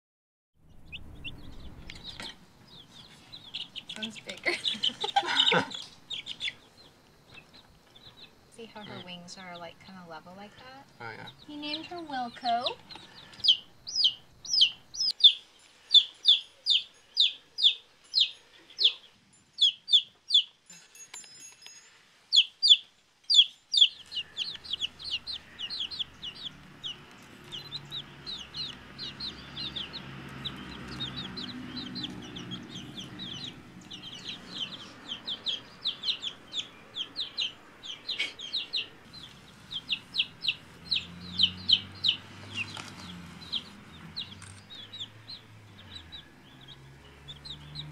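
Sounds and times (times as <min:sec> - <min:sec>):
baby chicks peeping: 0:00.6 - 0:20.8, 0:21.6 - 0:47.9.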